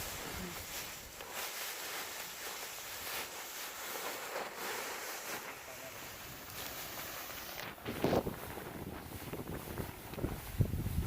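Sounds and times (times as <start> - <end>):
dry rice stalks rustling: 0.0 - 11.0
windy hiss: 0.0 - 11.0.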